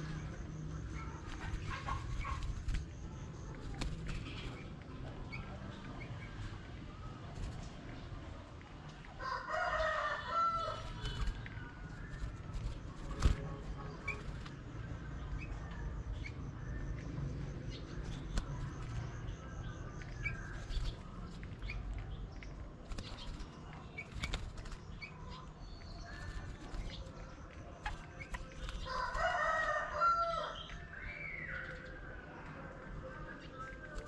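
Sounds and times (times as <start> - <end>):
small birds fluttering wings: 0.0 - 16.3, 17.5 - 30.5.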